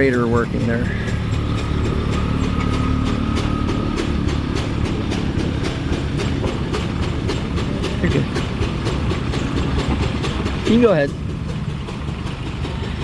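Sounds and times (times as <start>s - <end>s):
old engine knocking: 0.0s - 13.0s.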